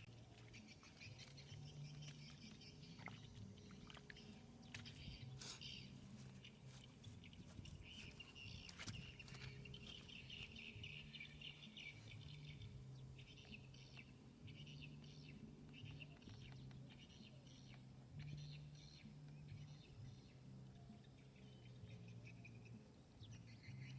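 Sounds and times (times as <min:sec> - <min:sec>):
faint bird chirping: 0:00.0 - 0:23.9.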